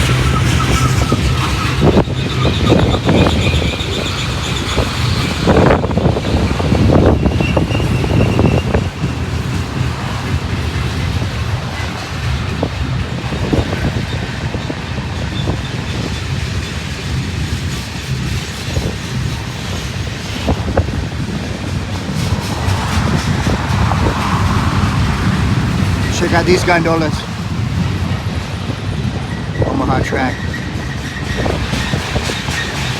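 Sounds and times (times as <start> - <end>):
freight cars rumbling on rails: 0.0 - 32.9
wheels and couplers clanking: 0.0 - 32.9.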